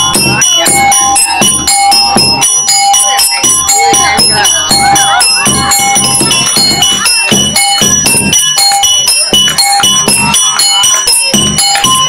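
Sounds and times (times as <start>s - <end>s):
upbeat music with chiming bells: 0.0s - 12.0s.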